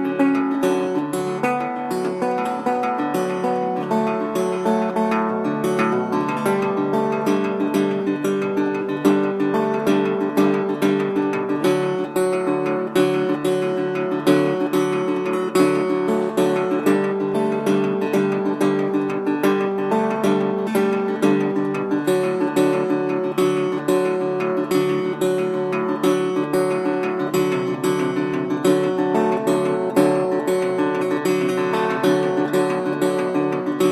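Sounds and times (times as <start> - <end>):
acoustic guitar strumming chords: 0.0 - 33.9.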